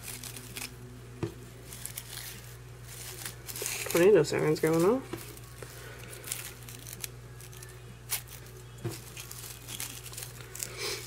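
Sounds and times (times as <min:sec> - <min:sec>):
crinkle paper rustling: 0:00.0 - 0:00.8, 0:01.6 - 0:11.0.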